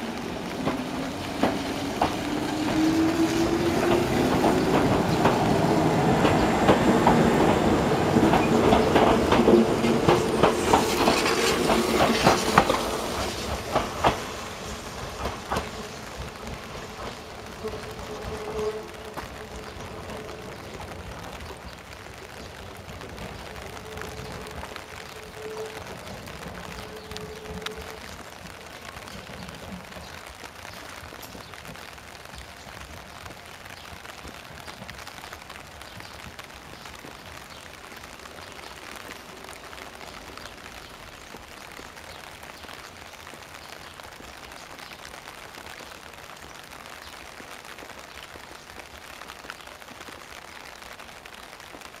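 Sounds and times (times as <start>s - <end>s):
steady rain pattering: 0.0s - 52.0s.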